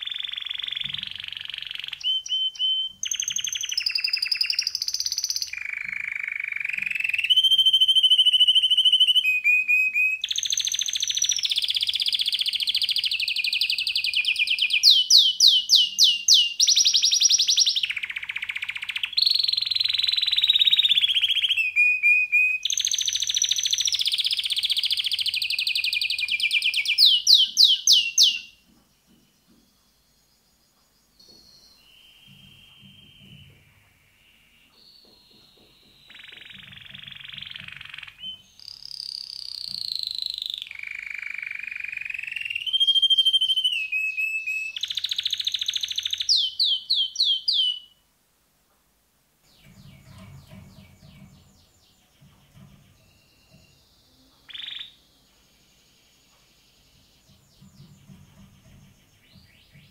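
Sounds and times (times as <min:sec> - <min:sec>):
canary singing trills: 0:00.0 - 0:48.0, 0:49.5 - 0:59.9.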